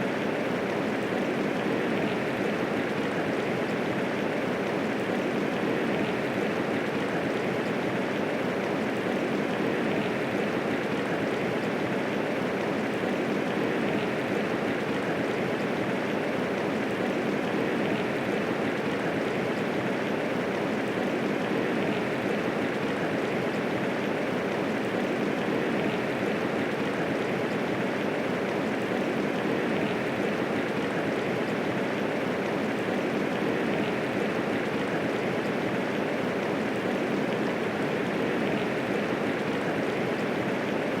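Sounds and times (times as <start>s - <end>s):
steady rainfall: 0.0s - 41.0s.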